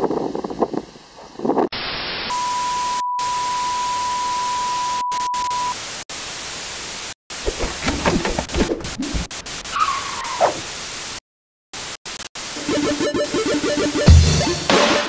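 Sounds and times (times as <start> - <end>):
television static hiss: 0.0 - 11.2, 11.8 - 13.0.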